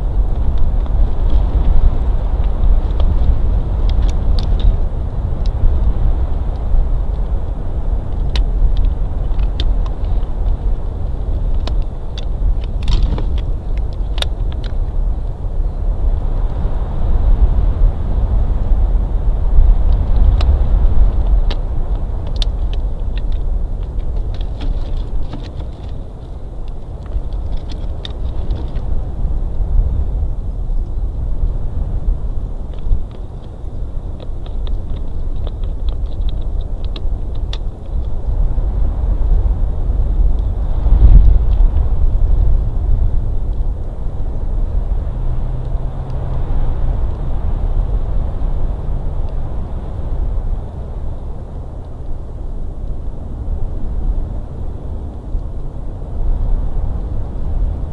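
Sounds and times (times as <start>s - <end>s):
wind rumble on microphone: 0.0s - 57.9s.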